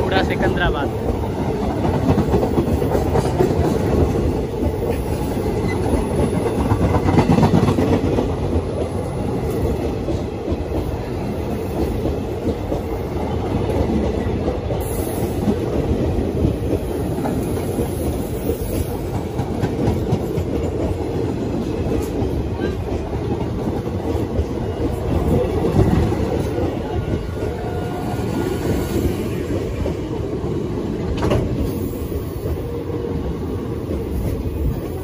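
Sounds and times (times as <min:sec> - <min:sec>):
train wheels clicking over rail joints: 0:01.0 - 0:32.8.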